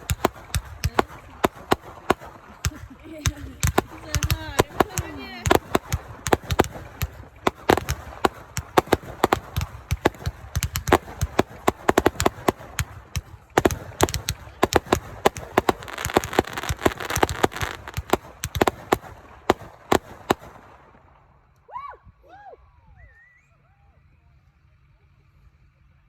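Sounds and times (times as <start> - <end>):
fireworks bangs and pops: 0.0 - 21.0.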